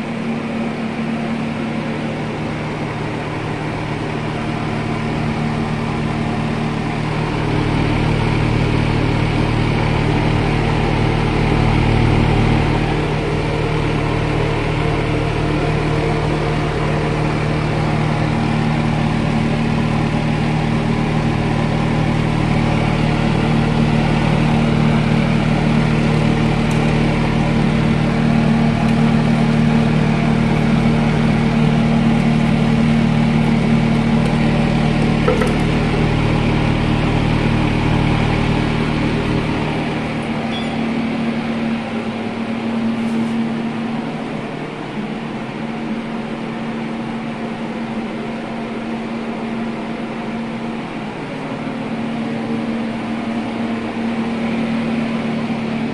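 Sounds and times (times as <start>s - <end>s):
electric fan motor hum: 0.0s - 55.9s.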